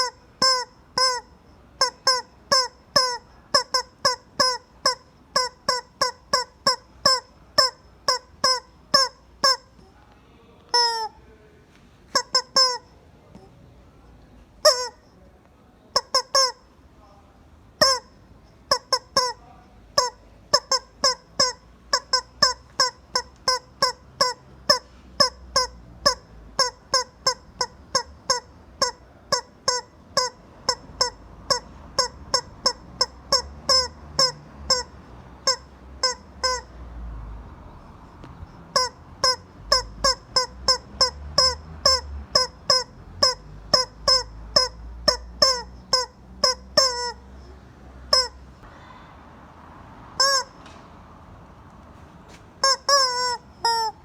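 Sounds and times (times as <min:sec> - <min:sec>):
rubber chicken squawking: 0:00.0 - 0:09.9, 0:10.7 - 0:11.2, 0:12.1 - 0:13.5, 0:14.6 - 0:15.1, 0:15.9 - 0:16.7, 0:17.8 - 0:36.8, 0:38.1 - 0:48.6, 0:50.2 - 0:50.6, 0:52.6 - 0:54.0.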